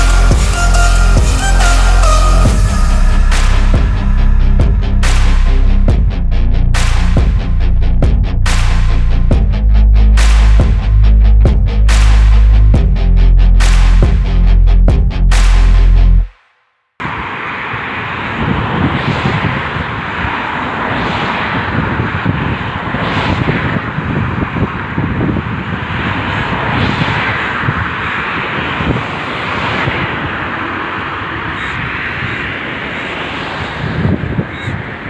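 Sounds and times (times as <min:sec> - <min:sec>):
steady rushing noise: 0:00.0 - 0:16.3, 0:17.0 - 0:35.0.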